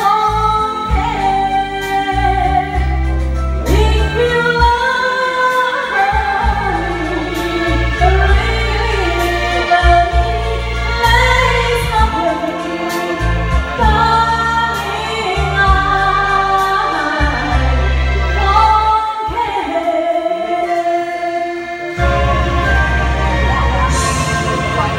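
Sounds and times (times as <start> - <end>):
woman singing into microphone: 0.0 - 22.2
backing track with bass: 0.0 - 24.9.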